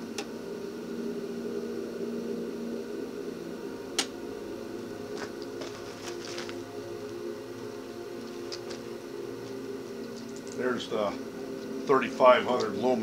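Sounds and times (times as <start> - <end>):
cooling fan humming: 0.0 - 13.0.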